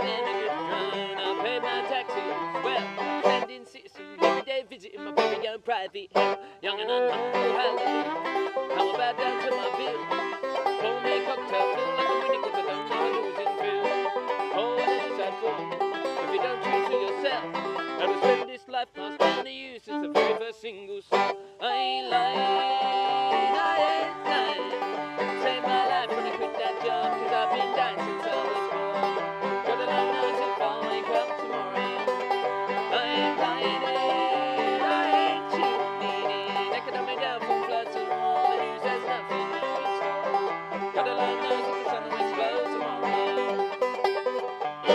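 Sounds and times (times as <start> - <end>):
banjo picking: 0.0 - 44.9
bluegrass band playing: 0.0 - 44.9.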